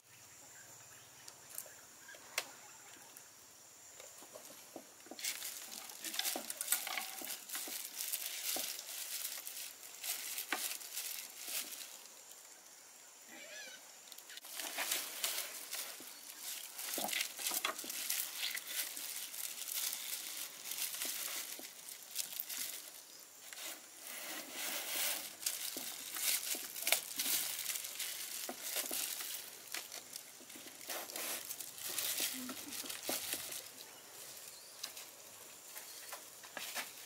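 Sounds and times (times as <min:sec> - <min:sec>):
rustling and crinkling: 0:03.9 - 0:12.6, 0:13.6 - 0:37.0
bamboo sticks clicking and scraping: 0:04.0 - 0:12.4, 0:14.0 - 0:37.0.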